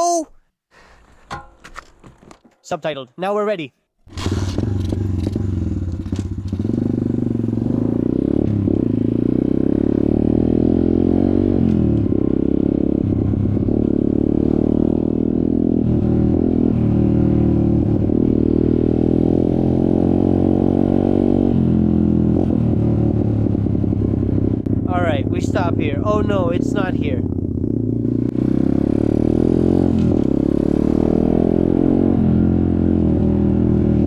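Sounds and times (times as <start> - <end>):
motorcycle engine revving: 4.1 - 34.0.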